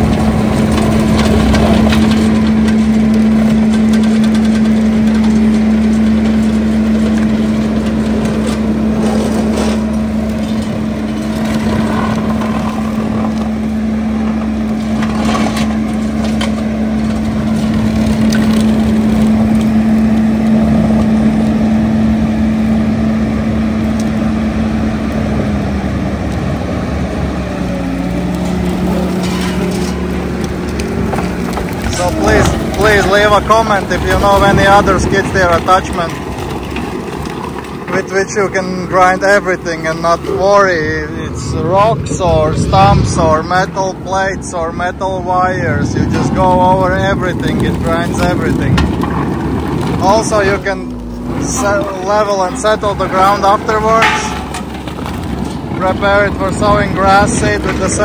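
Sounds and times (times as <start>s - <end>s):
grinder crunching soil and roots: 0.0s - 58.0s
skid steer engine running: 0.0s - 58.0s.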